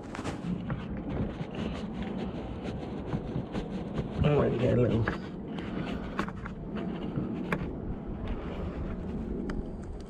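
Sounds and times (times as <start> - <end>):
low rumble: 0.0 - 10.0
wind on microphone: 0.0 - 10.0.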